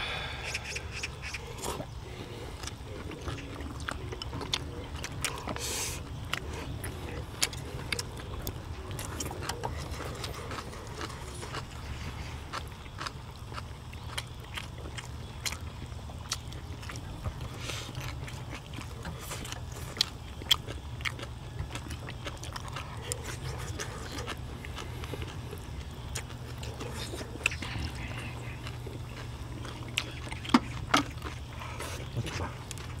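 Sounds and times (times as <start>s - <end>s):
chewing and mouth noises: 0.0s - 33.0s
steady low hum: 0.0s - 33.0s.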